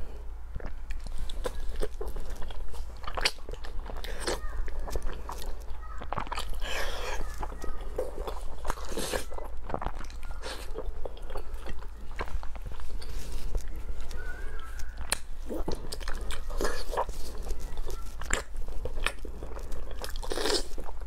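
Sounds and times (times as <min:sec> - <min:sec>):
wet chewing and smacking: 0:00.4 - 0:21.0.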